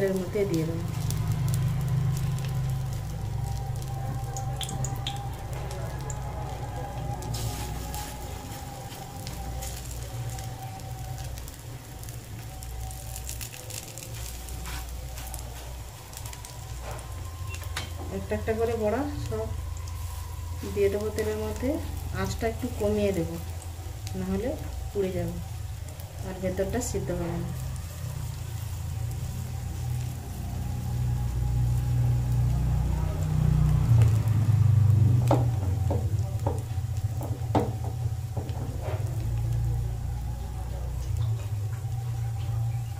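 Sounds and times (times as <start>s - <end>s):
fritters sizzling in oil: 0.0s - 42.9s
low engine-like rumble: 0.0s - 42.9s
low hum: 0.0s - 42.9s
oil crackling and spattering: 0.0s - 42.9s.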